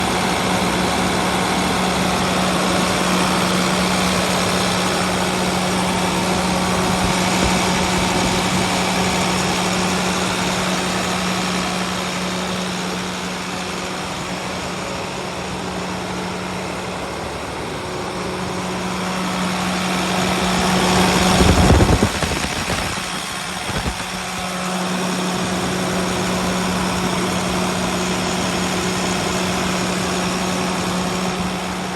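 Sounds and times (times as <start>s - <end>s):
bus engine idling: 0.0s - 31.9s.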